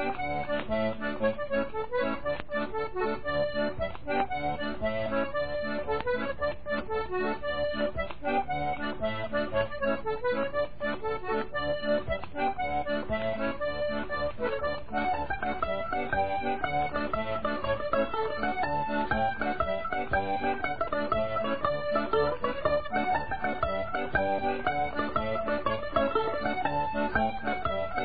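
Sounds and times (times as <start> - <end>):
accordion playing: 0.0 - 28.0.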